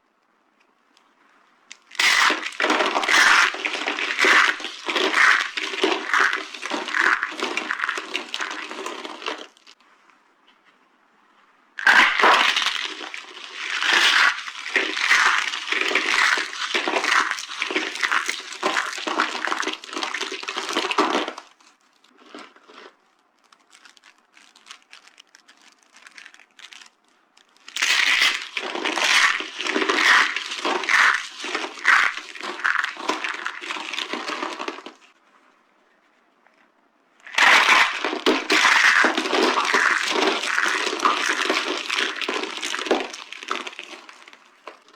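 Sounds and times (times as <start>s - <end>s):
dry soap crackling and crunching: 1.0s - 9.8s, 11.8s - 35.2s, 37.2s - 44.9s.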